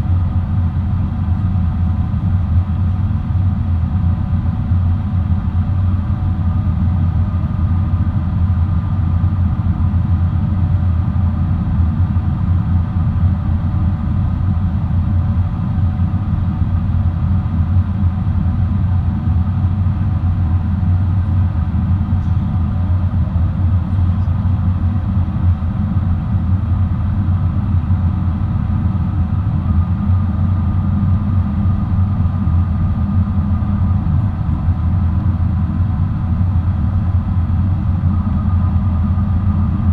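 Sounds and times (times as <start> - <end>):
airliner drone in flight: 0.0 - 39.9
faint steady whine: 0.0 - 39.9.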